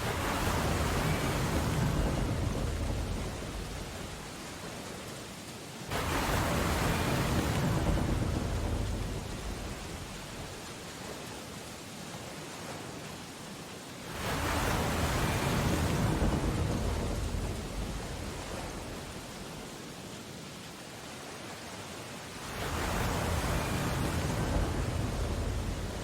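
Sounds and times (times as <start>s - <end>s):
ocean waves rushing surges: 0.0s - 26.0s
steady rain hiss: 0.0s - 26.0s.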